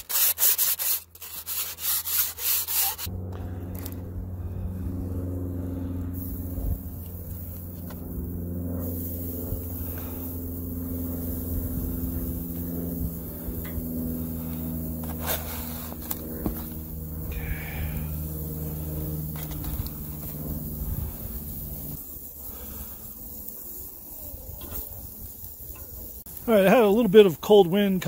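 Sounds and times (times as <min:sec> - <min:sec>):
low drone of held tones: 0:02.4 - 0:27.1.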